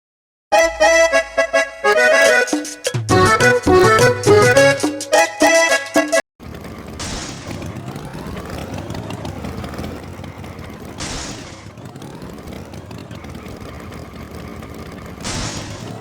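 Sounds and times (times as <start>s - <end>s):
tractor engine running: 0.6s - 4.9s, 6.4s - 16.0s.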